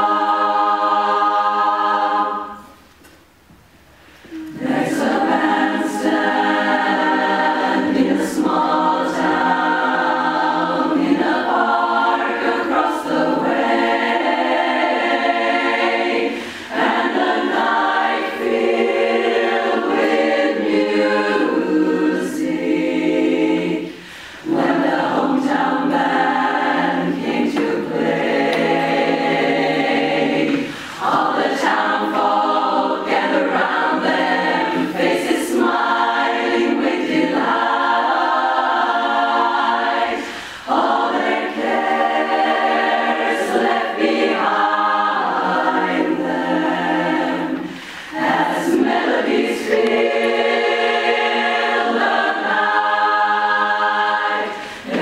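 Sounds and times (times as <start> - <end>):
women's chorus singing a cappella: 0.0 - 2.8, 4.2 - 55.0.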